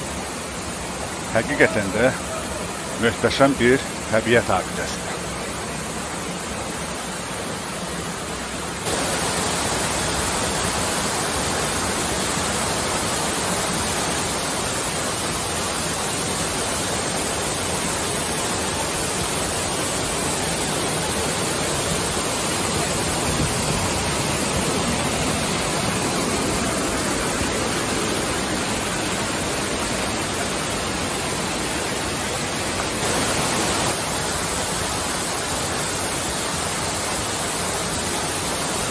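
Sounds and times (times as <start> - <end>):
waterfall rushing onto rock: 0.0 - 38.9.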